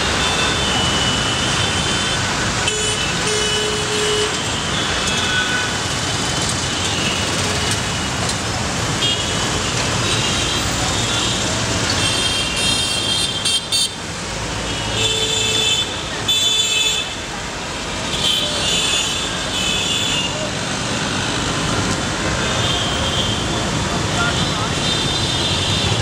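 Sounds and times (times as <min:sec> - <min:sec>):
traffic engines passing: 0:00.0 - 0:26.0.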